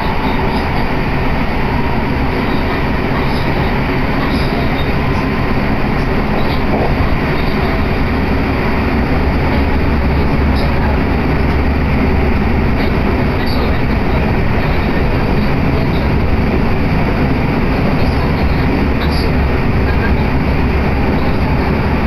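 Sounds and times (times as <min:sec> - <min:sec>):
train wheels and motors rumbling: 0:00.0 - 0:22.0.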